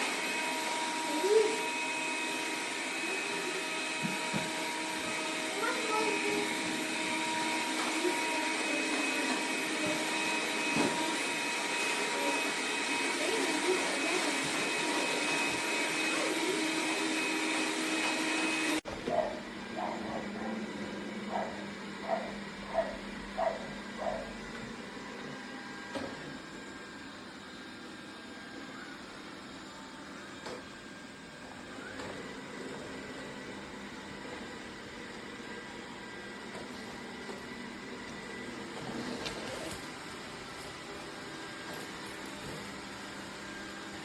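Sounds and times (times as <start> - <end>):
robot vacuum whirring: 0.0 - 44.0.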